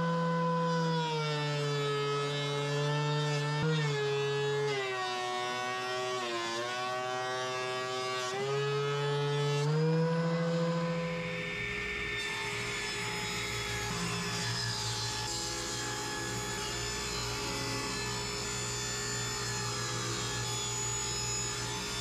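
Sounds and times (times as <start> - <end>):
table saw running: 0.0 - 22.0
thickness planer running: 3.6 - 22.0.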